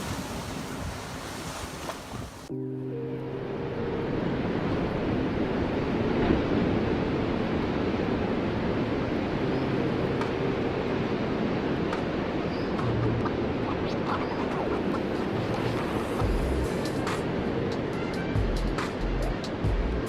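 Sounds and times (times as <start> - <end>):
waves breaking: 0.0 - 2.5, 4.0 - 19.7.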